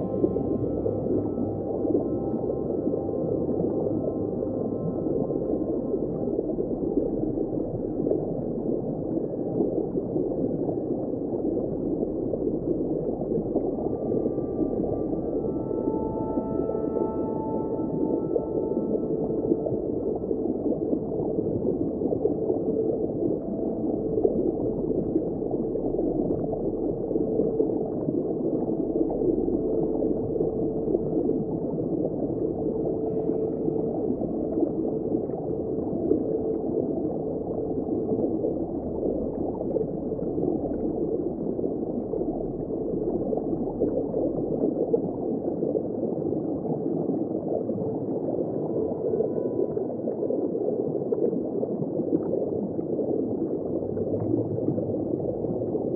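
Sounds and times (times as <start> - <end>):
muffled underwater rush: 0.0 - 55.9.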